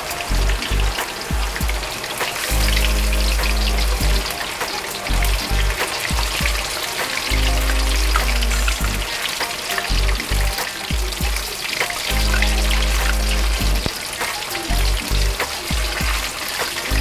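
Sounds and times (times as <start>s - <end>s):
oil sizzling while deep-frying: 0.0s - 17.0s.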